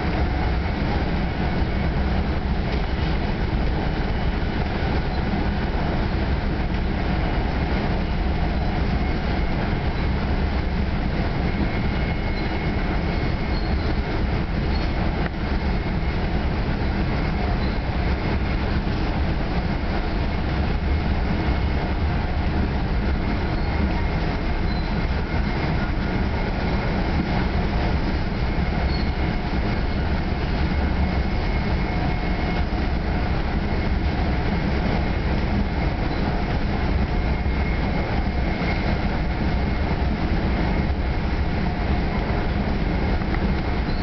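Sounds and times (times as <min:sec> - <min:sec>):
train coach rumble and rail noise: 0:00.0 - 0:44.0.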